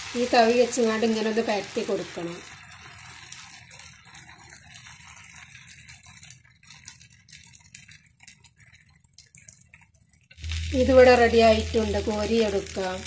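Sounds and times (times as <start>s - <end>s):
batter sizzling in a pan: 0.0s - 13.0s.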